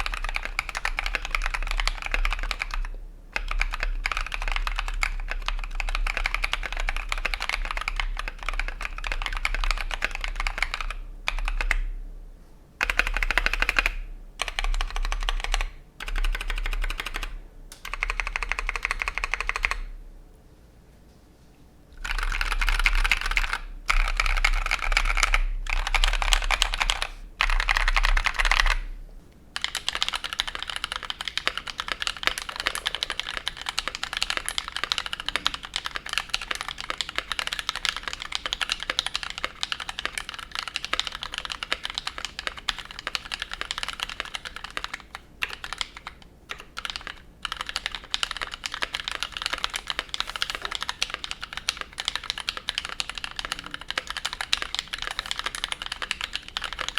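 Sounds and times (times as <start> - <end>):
mechanical keyboard typing: 0.0 - 11.9, 12.8 - 19.9, 22.0 - 28.9, 29.6 - 56.9.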